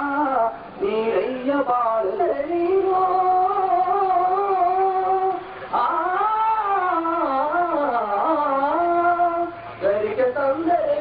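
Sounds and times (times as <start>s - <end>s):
man singing prayer song: 0.0s - 11.0s.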